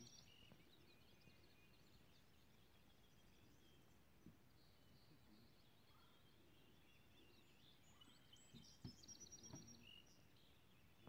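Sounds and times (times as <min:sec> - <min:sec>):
faint birds chirping and trilling: 0:00.0 - 0:11.0.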